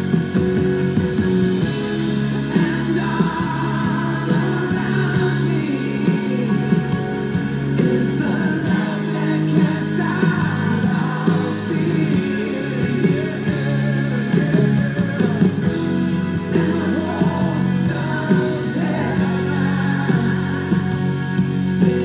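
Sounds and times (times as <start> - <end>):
song with singing over guitar: 0.0 - 22.0.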